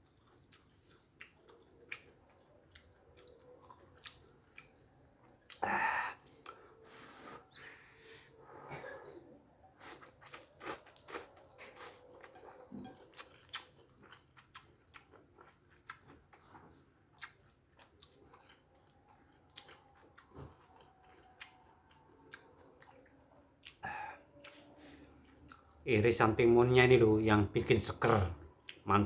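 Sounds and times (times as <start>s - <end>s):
person chewing noodles: 0.0s - 7.6s, 9.6s - 25.9s.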